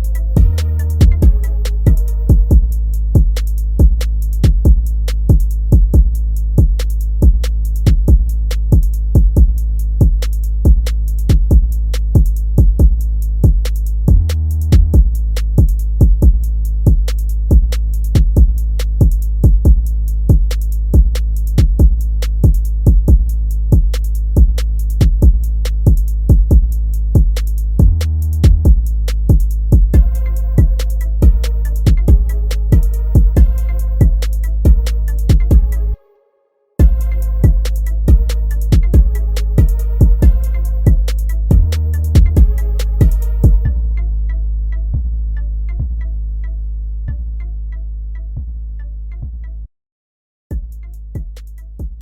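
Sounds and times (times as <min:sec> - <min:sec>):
deep bass: 0:00.0 - 0:36.0, 0:36.8 - 0:49.7, 0:50.5 - 0:52.0
drum machine hits: 0:00.0 - 0:36.0, 0:36.8 - 0:43.7, 0:50.5 - 0:52.0.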